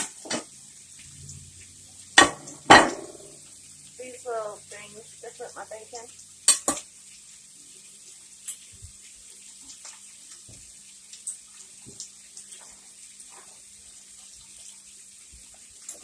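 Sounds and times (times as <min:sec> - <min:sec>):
bacon sizzling in a pan: 0:00.0 - 0:16.0.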